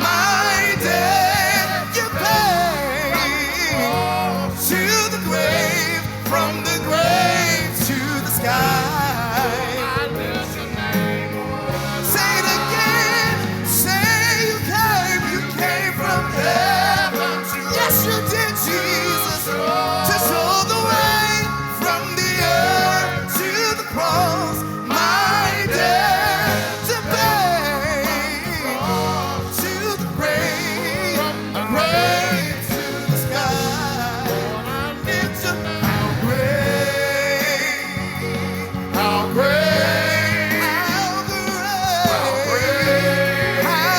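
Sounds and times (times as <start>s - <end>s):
gospel singers: 0.0s - 43.9s
instrumental band: 0.0s - 43.9s.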